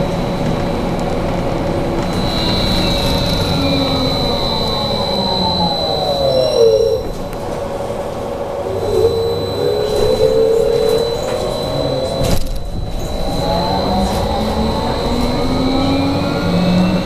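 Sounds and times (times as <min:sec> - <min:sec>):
electric traction drive whining: 0:00.0 - 0:17.0
steady high whistle: 0:02.0 - 0:07.4, 0:08.4 - 0:17.0.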